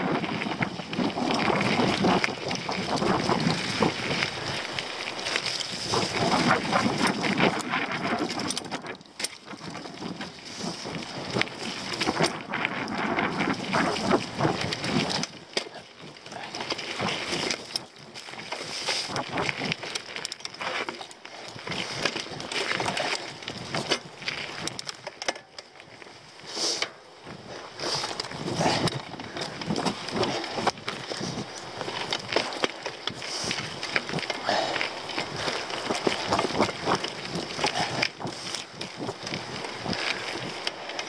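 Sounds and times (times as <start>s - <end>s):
bike rattling and knocking: 0.0s - 41.0s
bike tyres rolling and skidding on dirt: 0.0s - 41.0s.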